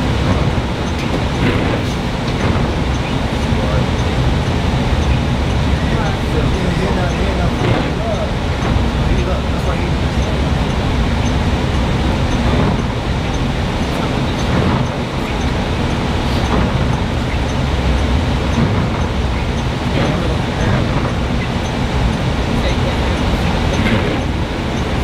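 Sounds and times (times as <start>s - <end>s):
bus engine and road noise: 0.0s - 25.0s.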